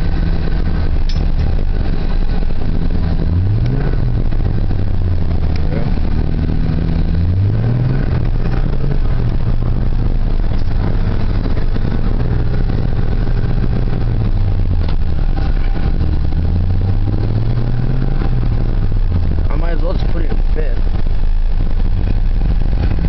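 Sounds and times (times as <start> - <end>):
truck engine at low revs: 0.0 - 23.0.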